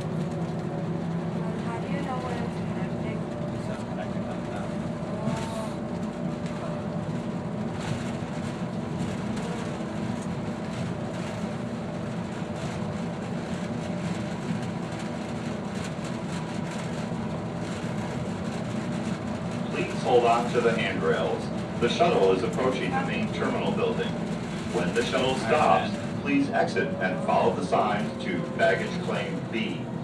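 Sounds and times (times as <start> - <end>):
tram rolling rumble: 0.0 - 30.0.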